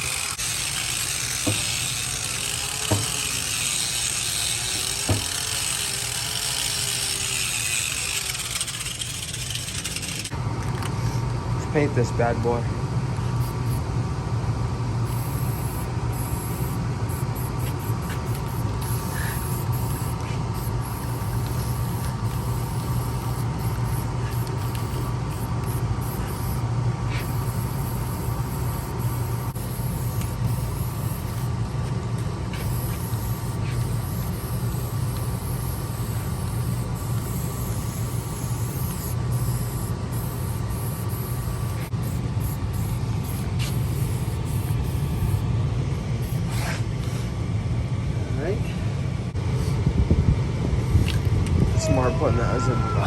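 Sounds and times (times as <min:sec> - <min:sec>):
mechanical hum: 0:00.0 - 0:53.0.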